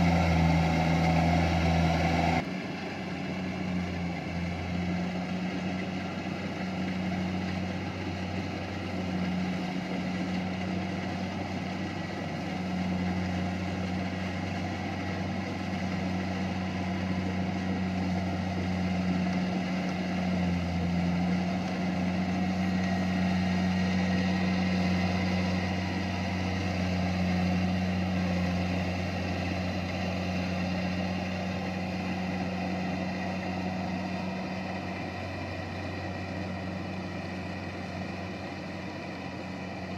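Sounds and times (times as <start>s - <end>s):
harvester engine humming: 0.0s - 39.9s
machinery whine: 0.0s - 39.9s.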